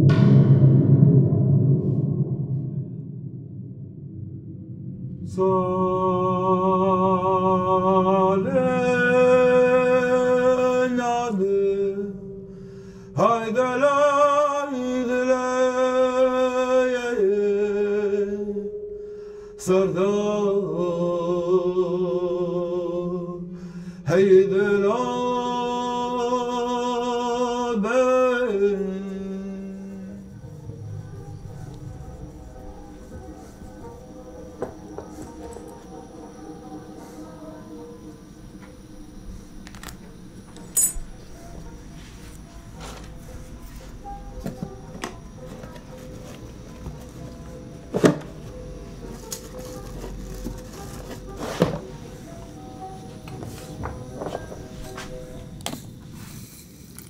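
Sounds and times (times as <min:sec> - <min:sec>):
low drone: 0:00.0 - 0:57.0.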